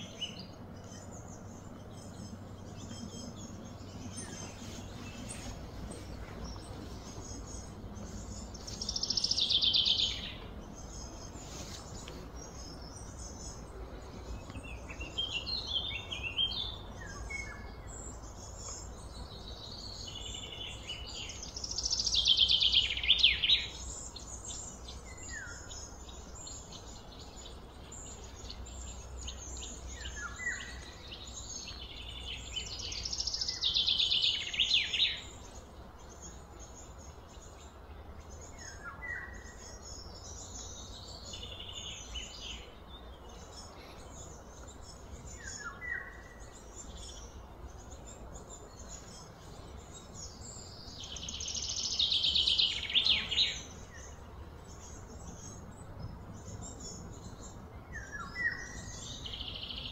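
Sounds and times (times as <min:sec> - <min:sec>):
birds singing and calling: 0:00.0 - 0:59.9
loud trilled bird song: 0:00.0 - 0:59.9.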